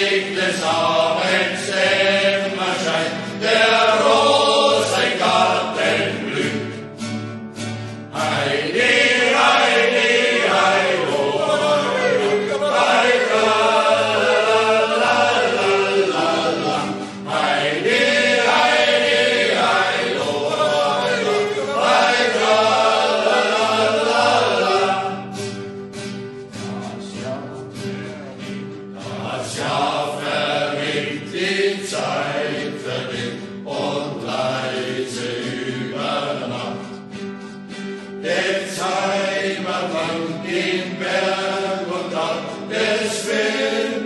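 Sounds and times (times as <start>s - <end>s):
male choir singing: 0.0s - 7.2s, 7.9s - 28.0s, 28.6s - 44.0s.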